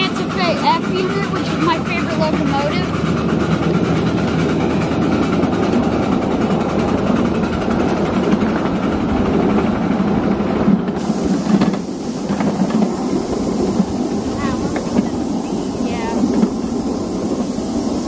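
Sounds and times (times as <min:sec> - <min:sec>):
miniature train wheels rumbling: 0:00.0 - 0:18.0.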